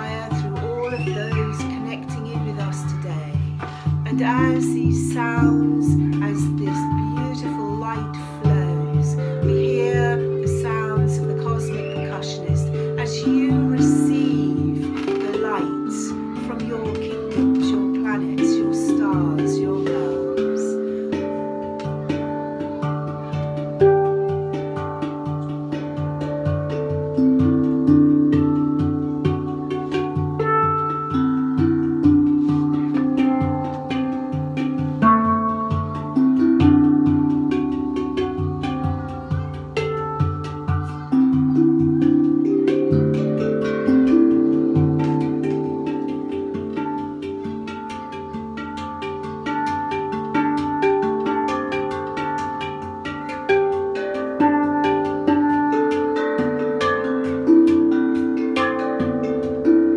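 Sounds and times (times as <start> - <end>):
slow plucked-string music: 0.0 - 59.9.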